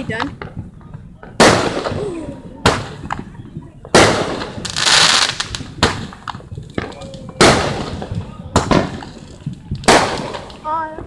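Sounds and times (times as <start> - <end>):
fireworks bangs: 0.0 - 11.0
fireworks hissing crackle: 0.8 - 11.0.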